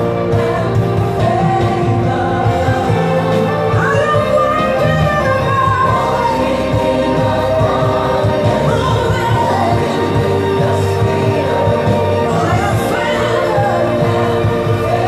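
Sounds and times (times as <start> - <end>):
band accompaniment: 0.0 - 15.0
choir singing: 0.0 - 15.0.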